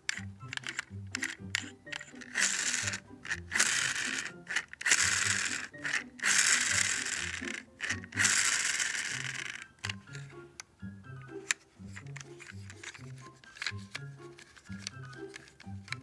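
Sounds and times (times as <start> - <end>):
plastic toy gear ratcheting: 0.0 - 10.3, 11.4 - 16.0
background music: 0.0 - 16.0.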